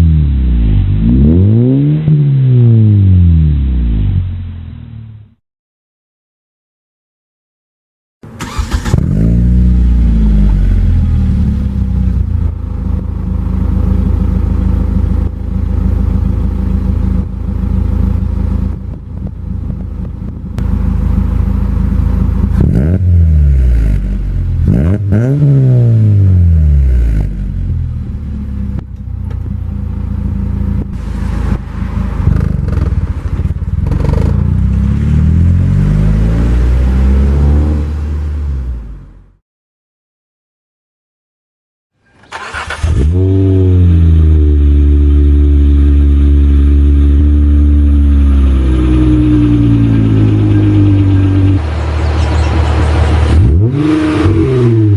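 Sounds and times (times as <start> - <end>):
car engine revving: 0.0 - 5.3, 8.2 - 39.4, 42.2 - 54.9.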